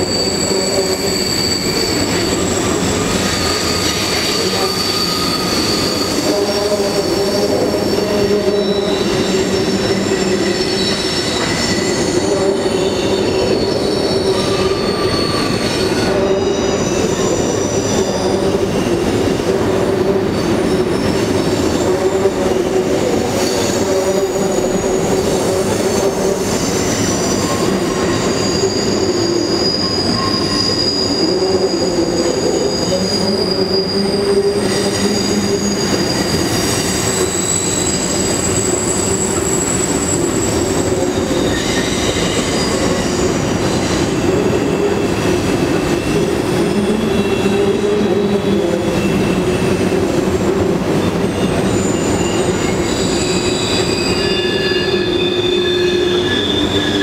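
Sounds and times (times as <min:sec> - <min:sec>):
high wheel squeals: 0:00.0 - 0:50.2, 0:50.8 - 0:57.0
train wheels rumbling on rail: 0:00.0 - 0:57.0.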